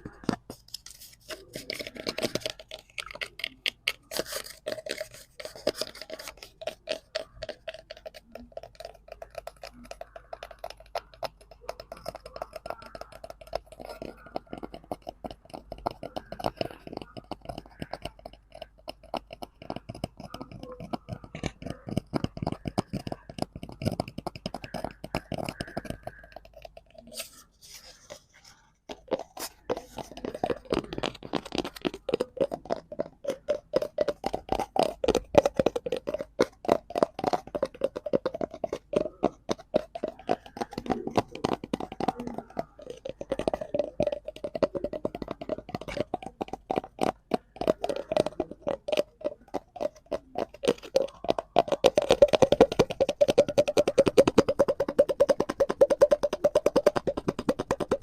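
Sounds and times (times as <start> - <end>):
fingers tapping on cardboard: 0.0 - 58.0.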